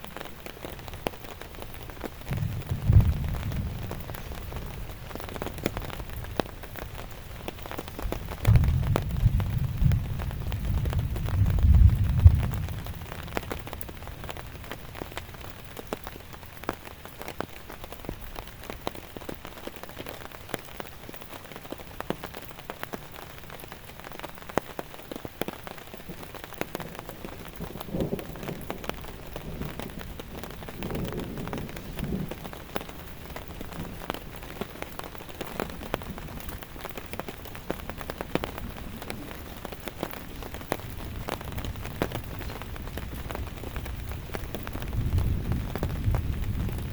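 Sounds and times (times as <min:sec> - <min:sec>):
raindrops ticking on surface: 0:00.0 - 0:46.9
steady rain: 0:00.0 - 0:46.9.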